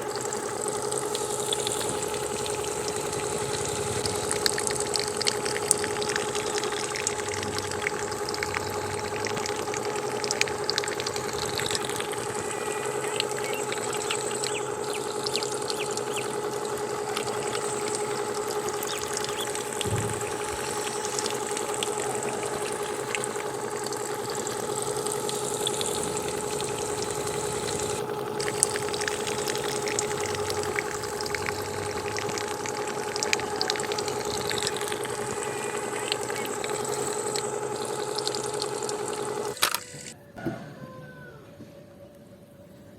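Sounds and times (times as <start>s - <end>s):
water splashing and trickling: 0.0s - 39.6s
electric water pump whining: 0.0s - 40.4s.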